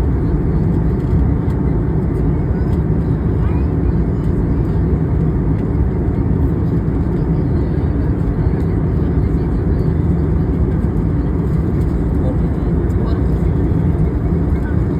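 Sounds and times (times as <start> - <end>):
aeroplane cabin engine rush: 0.0 - 14.9.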